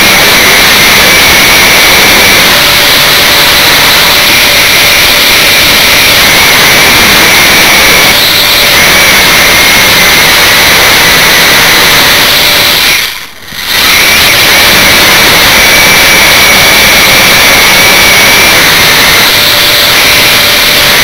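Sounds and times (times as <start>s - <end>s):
drone motors whining: 0.0s - 21.0s
rushing noise: 0.0s - 21.0s.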